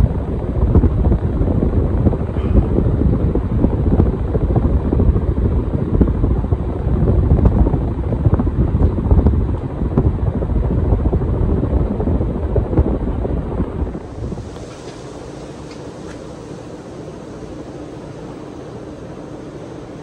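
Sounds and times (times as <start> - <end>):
ceiling fan wind buffeting microphone: 0.0 - 20.0.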